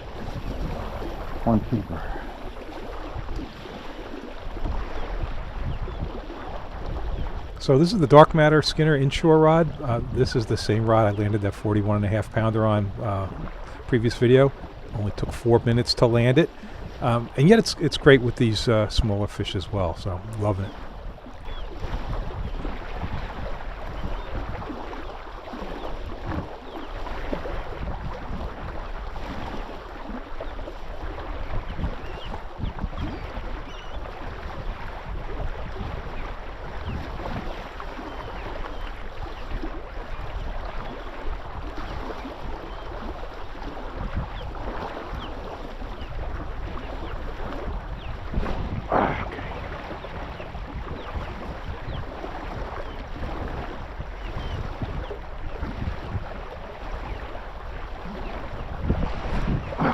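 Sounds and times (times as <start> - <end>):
water lapping against boat hull: 0.0 - 59.9
wind on microphone: 0.0 - 59.9.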